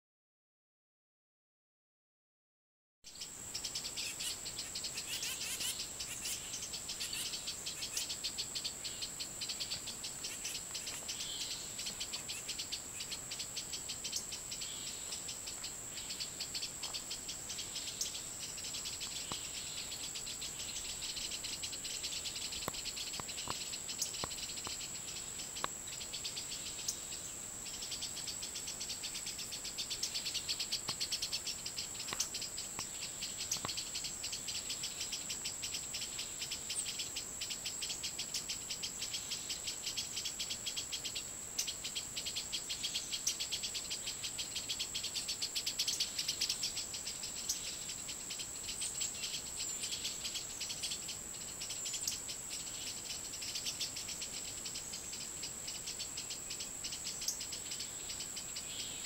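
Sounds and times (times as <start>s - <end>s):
insects high-pitched whine: 3.1s - 59.0s
insects pulsing trill: 3.1s - 59.0s.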